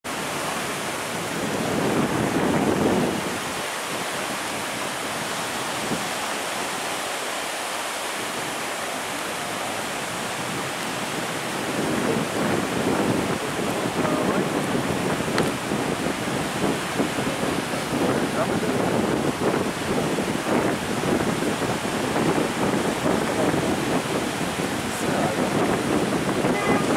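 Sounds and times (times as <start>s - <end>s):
surf breaking on beach: 0.0s - 26.9s
wind buffeting microphone: 0.0s - 26.9s.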